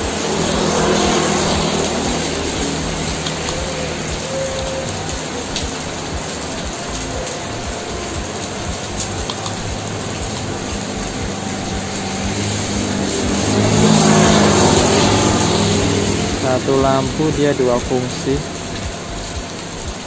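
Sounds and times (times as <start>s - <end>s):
heavy rain on wet road: 0.0s - 20.0s.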